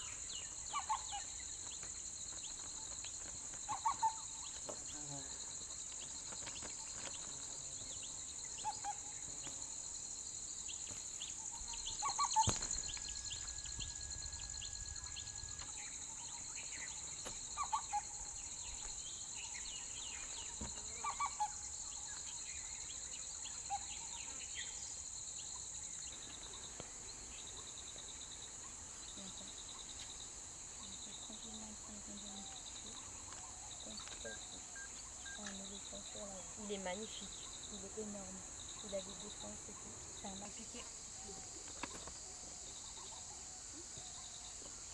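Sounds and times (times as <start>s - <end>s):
insect trill: 0.0s - 44.9s
insects buzzing: 0.0s - 44.9s.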